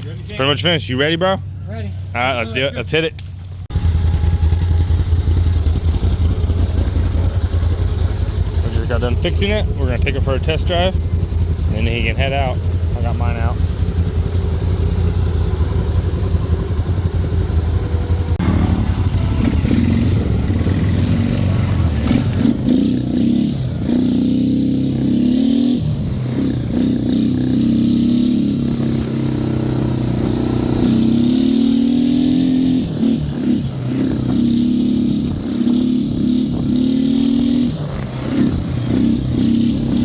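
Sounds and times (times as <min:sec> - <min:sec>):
atv engine idling and revving: 0:00.0 - 0:40.0.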